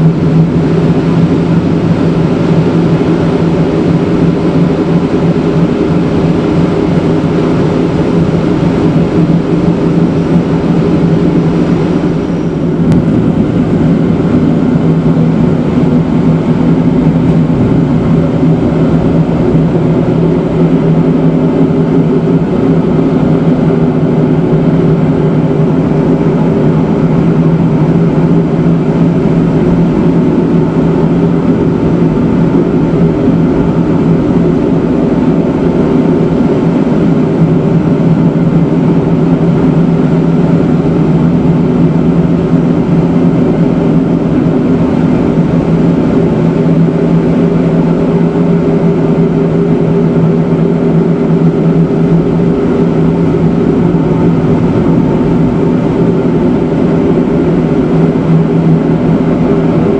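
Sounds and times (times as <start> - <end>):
train mechanical drone: 0.0 - 59.9.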